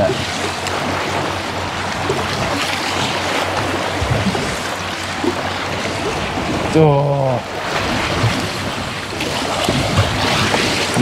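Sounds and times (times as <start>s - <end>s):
choppy sea around boat: 0.0s - 11.0s.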